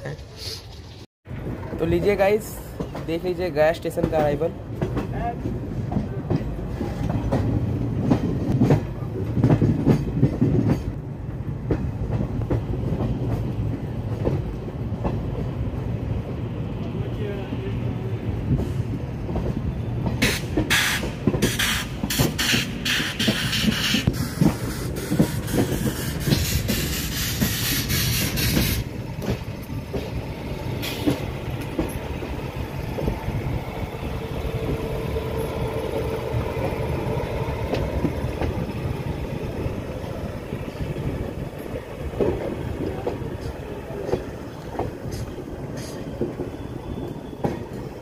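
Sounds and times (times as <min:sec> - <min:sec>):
train coach rumble: 0:00.0 - 0:48.0
wheel clatter over rail joints: 0:00.6 - 0:17.0, 0:18.4 - 0:48.0.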